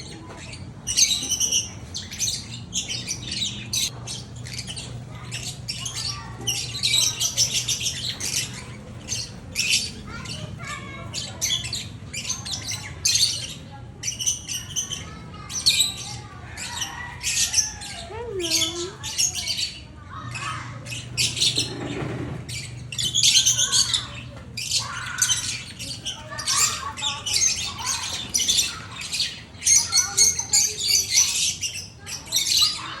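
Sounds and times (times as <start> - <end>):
lovebirds chirping and squawking: 0.0 - 33.0.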